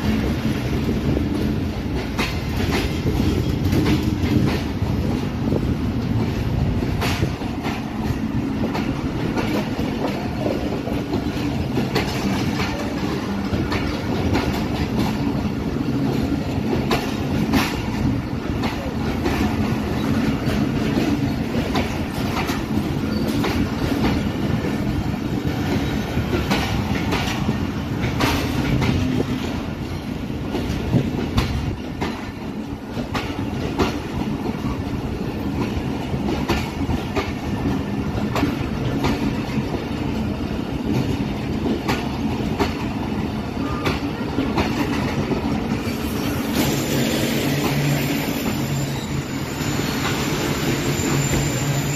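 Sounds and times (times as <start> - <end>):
wheels clattering over rail joints: 0.0 - 49.4
train wheels rumbling on track: 0.0 - 51.9.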